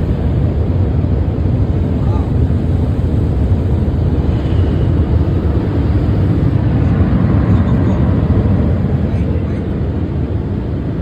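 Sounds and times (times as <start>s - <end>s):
car wash air dryers blowing: 0.0s - 11.0s.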